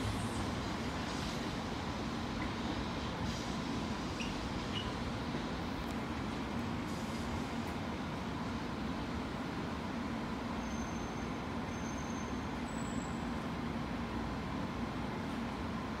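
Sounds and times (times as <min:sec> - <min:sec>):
railway station rumble and hiss: 0:00.0 - 0:16.0.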